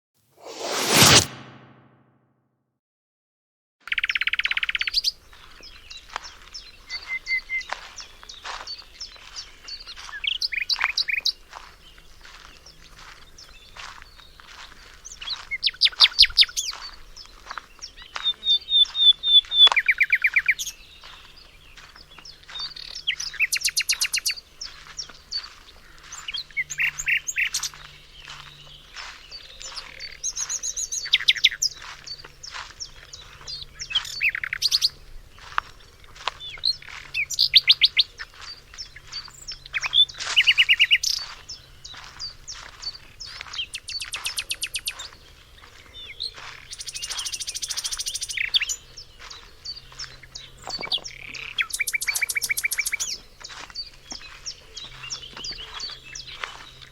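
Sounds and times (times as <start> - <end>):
songbirds singing: 3.9 - 56.9.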